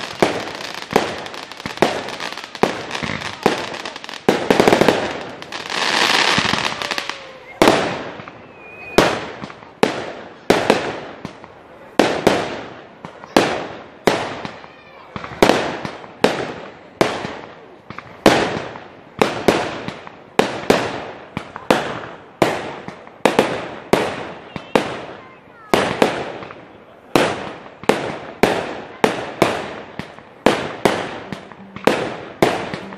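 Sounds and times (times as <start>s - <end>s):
fireworks bangs with echo: 0.0s - 32.9s
fireworks crackling: 0.0s - 32.9s.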